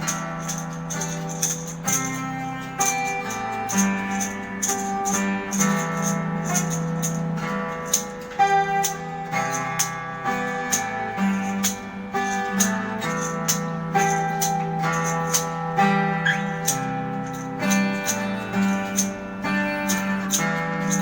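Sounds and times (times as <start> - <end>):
guitar chords: 0.0 - 21.0.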